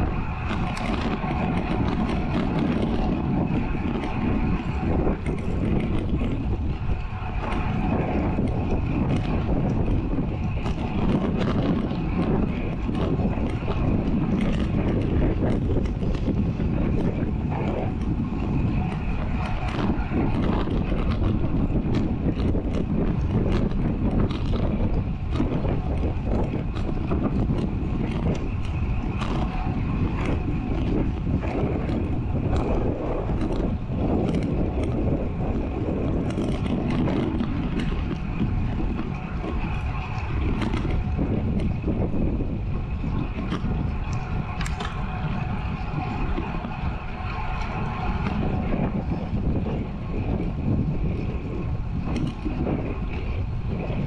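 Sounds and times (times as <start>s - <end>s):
bike tyres rolling on tarmac: 0.0s - 54.0s
wind rushing over microphone: 0.0s - 54.0s.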